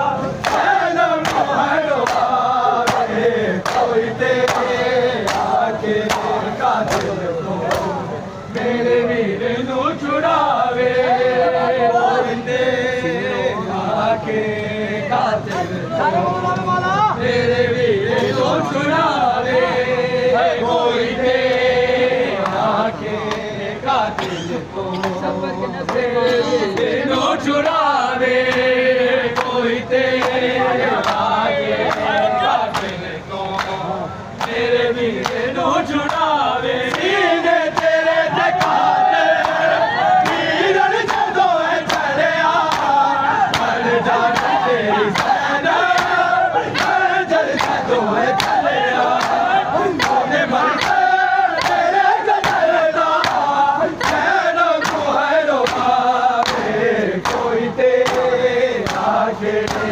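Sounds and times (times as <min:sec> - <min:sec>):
men chanting a lament: 0:00.0 - 0:59.9.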